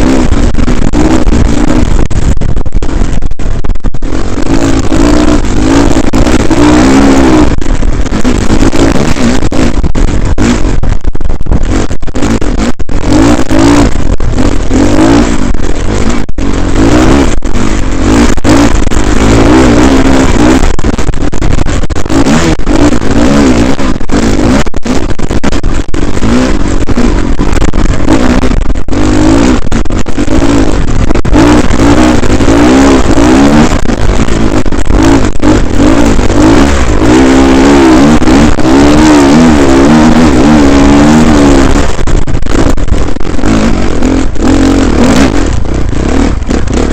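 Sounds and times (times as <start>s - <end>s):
dirt bike engine revving: 0.0s - 46.9s
heavy rushing wind noise: 0.0s - 46.9s.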